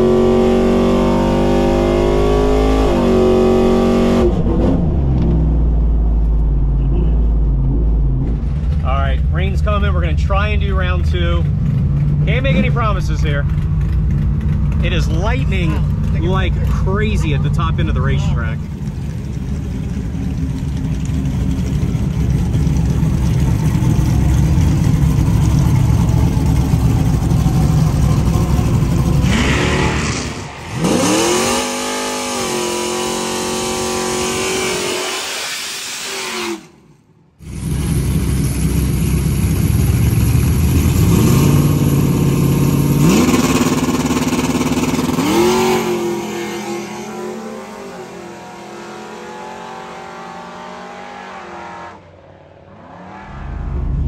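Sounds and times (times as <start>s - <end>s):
engine revving: 0.0s - 36.8s, 37.4s - 54.0s.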